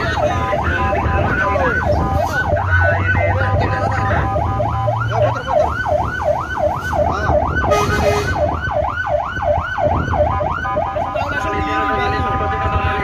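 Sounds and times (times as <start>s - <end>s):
siren on yelp: 0.0s - 13.0s.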